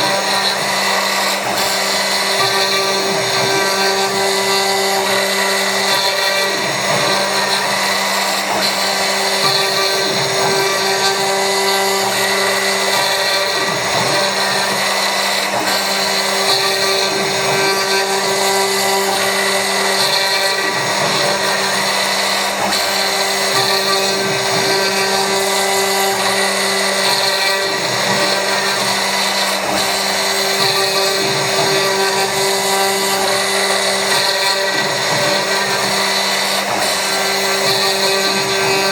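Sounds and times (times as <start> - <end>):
milling machine whining: 0.0 - 38.9.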